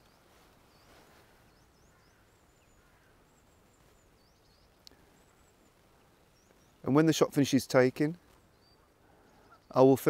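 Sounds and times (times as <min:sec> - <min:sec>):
faint high bird calls: 0:00.0 - 0:07.0, 0:08.2 - 0:10.0.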